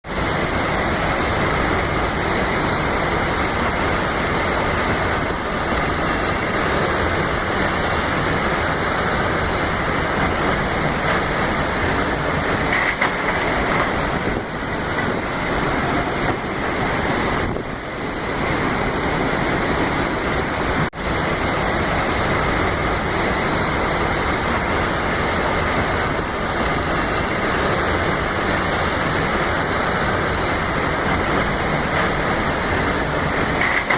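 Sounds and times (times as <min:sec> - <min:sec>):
heavy rain pouring: 0:00.0 - 0:33.9
storm wind: 0:00.0 - 0:33.9.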